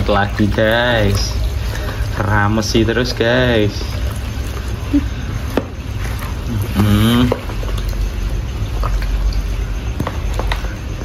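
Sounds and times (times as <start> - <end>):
wet squelching of kneaded chicken: 0.0 - 11.0.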